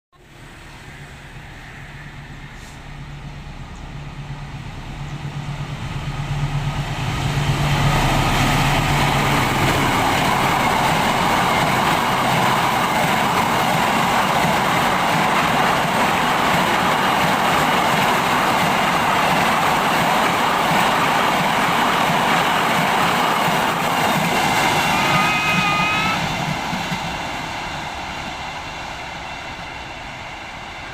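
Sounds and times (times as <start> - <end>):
locomotive engine hum: 0.2 - 30.9
rumble of train wheels: 0.2 - 30.9.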